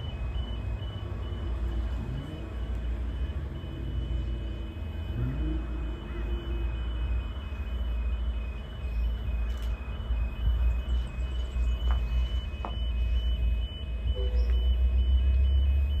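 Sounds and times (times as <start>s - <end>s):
high electronic beeps: 0.0s - 16.0s.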